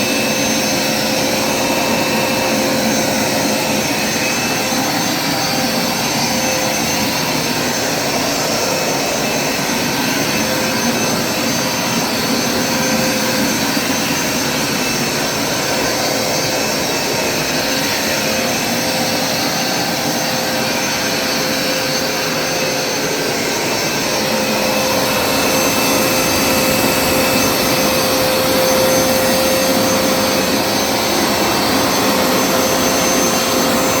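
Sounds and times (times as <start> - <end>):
carpet cleaner motor whining: 0.0 - 34.0.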